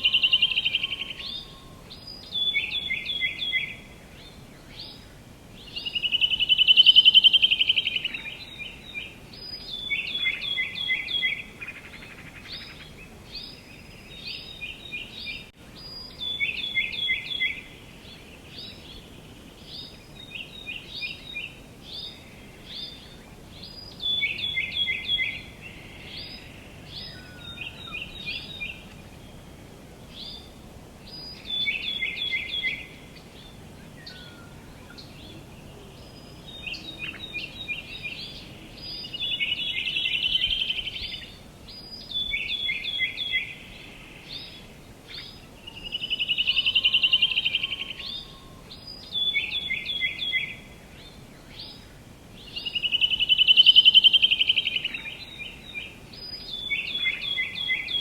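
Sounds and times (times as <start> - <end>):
faint outdoor hiss: 0.0 - 58.0
songbirds chirping: 0.0 - 58.0.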